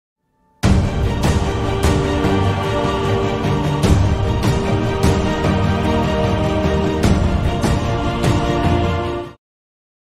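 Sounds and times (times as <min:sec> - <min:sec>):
theme music with heavy beat: 0:00.6 - 0:09.4.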